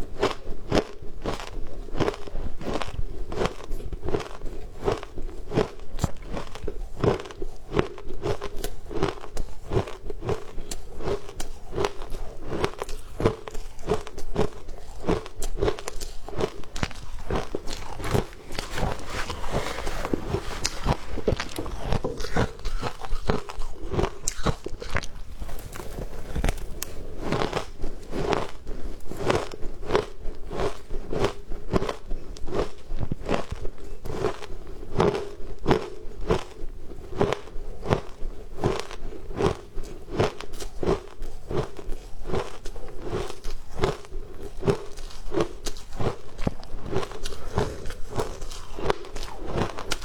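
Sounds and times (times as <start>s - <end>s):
ice crunching while chewed: 0.0s - 50.0s.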